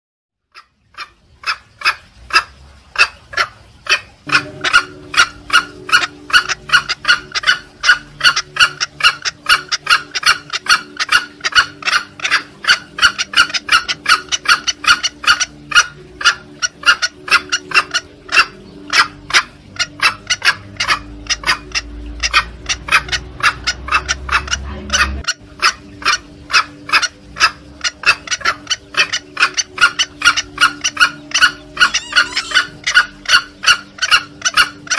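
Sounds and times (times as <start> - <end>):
bird lure call clucking: 0.5 - 34.9.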